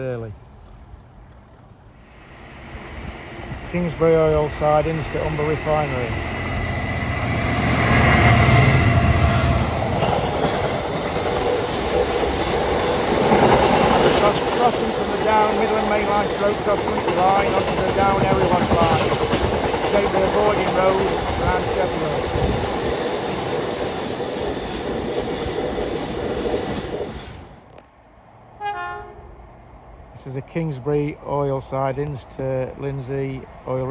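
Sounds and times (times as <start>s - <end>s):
diesel locomotive engine drone: 0.0s - 33.9s
wagons rumbling over rails: 0.3s - 33.9s.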